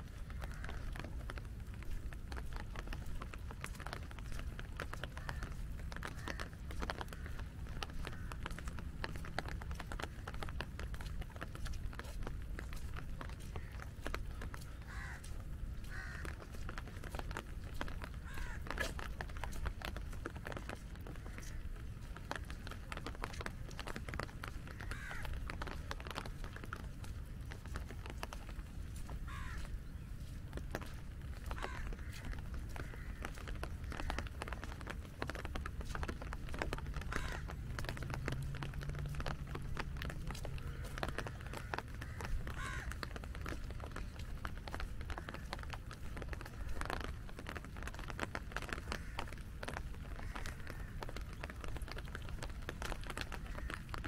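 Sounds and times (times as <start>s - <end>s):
raindrops tapping on an umbrella: 0.0s - 54.0s
crows cawing: 0.1s - 1.8s, 3.0s - 11.5s, 12.6s - 26.7s, 27.6s - 54.0s.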